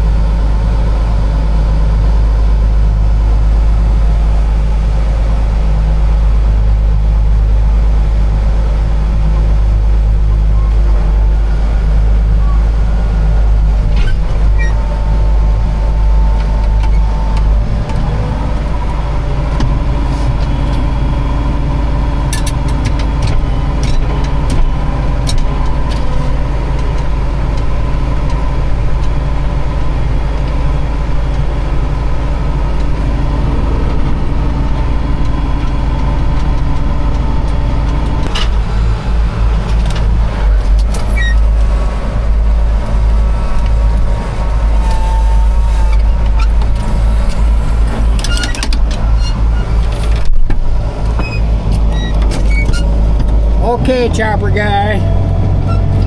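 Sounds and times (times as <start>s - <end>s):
tractor engine rumbling: 0.0s - 56.0s.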